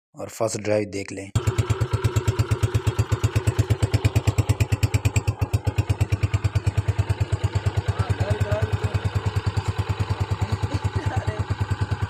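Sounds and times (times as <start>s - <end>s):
motorcycle engine idling: 1.4s - 12.0s.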